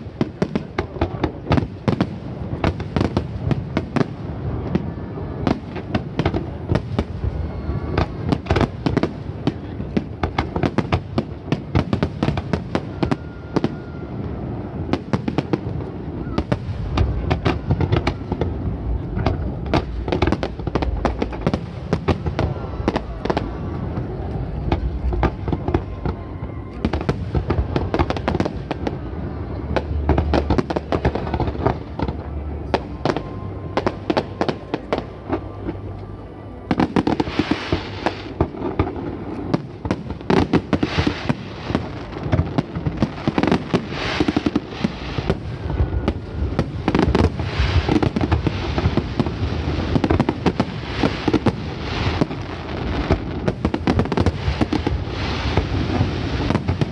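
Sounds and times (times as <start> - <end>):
fireworks bursts and crackling: 0.0 - 56.9.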